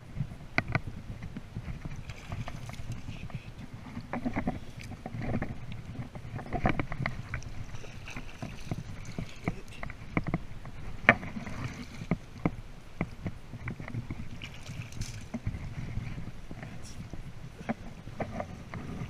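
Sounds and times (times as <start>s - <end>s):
river water sloshing and splashing: 1.3s - 19.0s.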